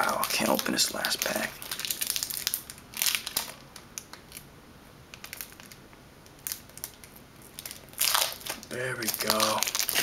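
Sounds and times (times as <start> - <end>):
foil pack crinkling: 0.0 - 4.4, 5.1 - 10.0.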